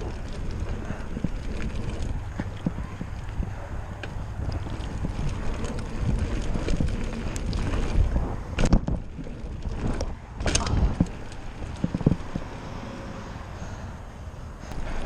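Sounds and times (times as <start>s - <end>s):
bike clattering: 0.0s - 12.8s
bike rattling and knocking: 0.0s - 12.8s
bicycle rumbling on dirt track: 0.0s - 15.0s
wind buffeting microphone: 0.0s - 15.0s.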